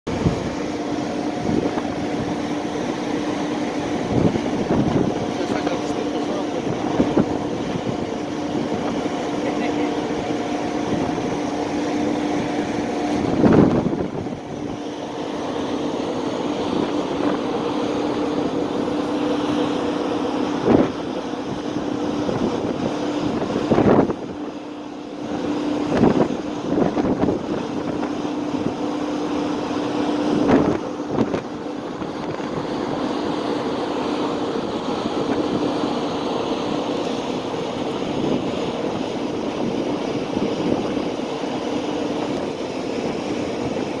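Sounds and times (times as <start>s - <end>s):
ferry engines droning: 0.1s - 44.0s.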